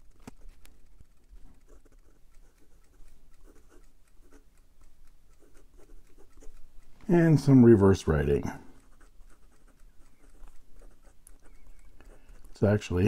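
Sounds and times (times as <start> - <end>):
pen nib scratching on paper: 0.0 - 13.0.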